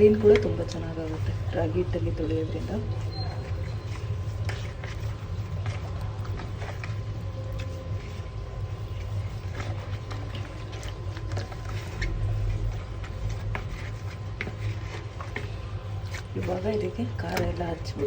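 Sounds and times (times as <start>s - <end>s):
hands rubbing fish in bowl: 0.0s - 18.0s
low steady hum: 0.0s - 18.0s.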